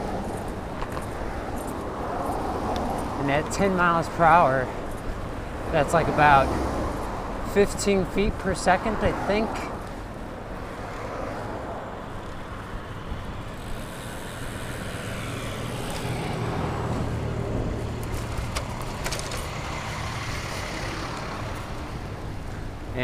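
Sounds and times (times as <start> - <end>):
cars driving past: 0.0 - 23.0.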